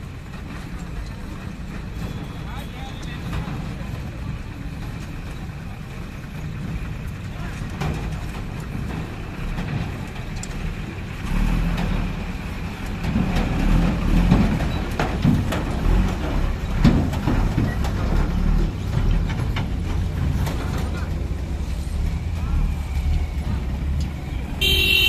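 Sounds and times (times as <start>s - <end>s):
diesel truck engine: 0.0s - 25.0s
truck wheels clanking over rails: 0.0s - 25.0s.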